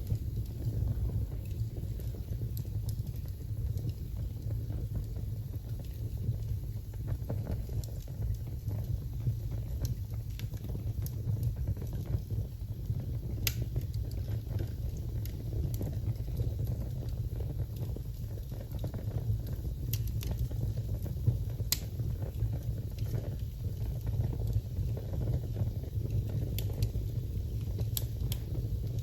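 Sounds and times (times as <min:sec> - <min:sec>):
low fire rumble: 0:00.0 - 0:29.0
sharp fire pops: 0:00.0 - 0:29.0
wood fire crackling: 0:00.0 - 0:29.0.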